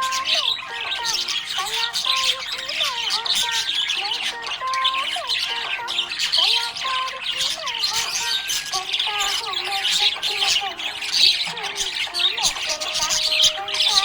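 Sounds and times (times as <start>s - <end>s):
budgerigar chirping and chattering: 0.0s - 14.0s.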